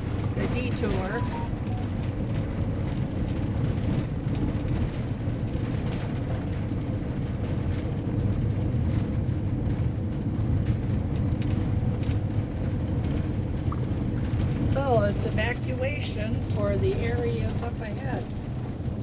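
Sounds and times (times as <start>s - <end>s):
low road rumble: 0.0s - 19.0s.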